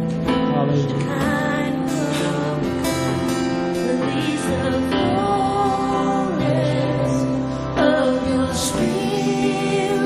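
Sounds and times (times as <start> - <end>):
guitar chords and picked notes: 0.0 - 10.0
soft instrumental worship music: 0.0 - 10.0.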